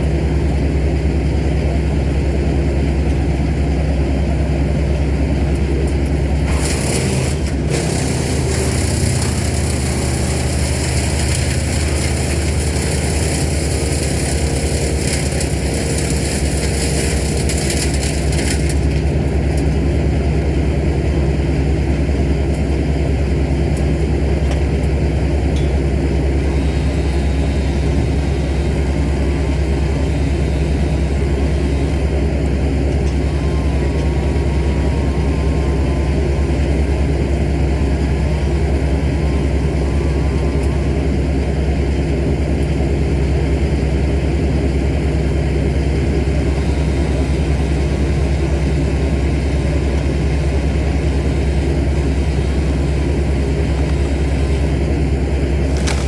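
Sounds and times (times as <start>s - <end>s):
heavy engine running: 0.0s - 56.0s.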